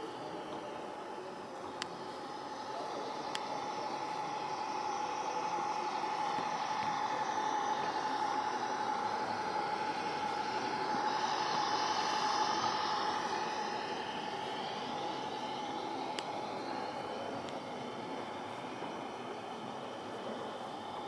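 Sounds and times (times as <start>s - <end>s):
model train running: 0.0s - 21.0s.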